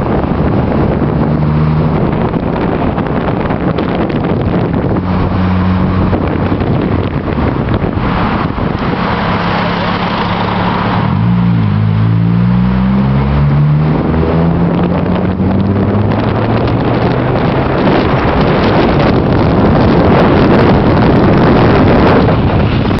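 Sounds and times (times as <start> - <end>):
road and wind noise: 0.0 - 23.0
vehicle engine accelerating: 0.0 - 23.0.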